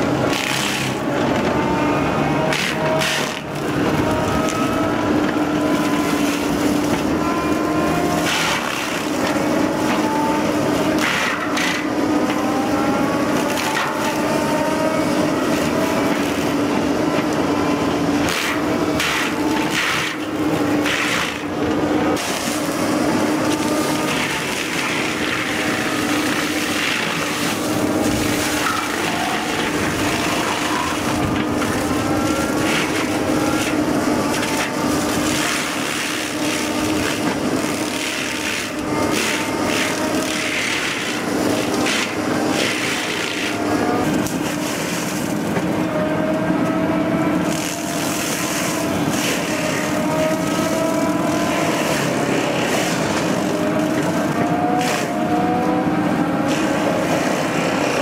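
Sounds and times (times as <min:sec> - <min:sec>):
machine humming: 0:00.0 - 0:58.0
wood cracking and splintering: 0:00.0 - 0:58.0.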